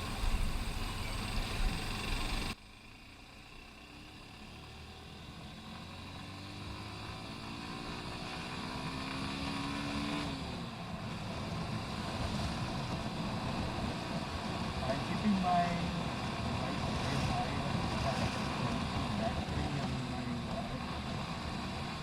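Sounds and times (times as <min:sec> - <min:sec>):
motorcycle engine accelerating: 0:00.0 - 0:22.0
wind and road noise: 0:00.0 - 0:22.0.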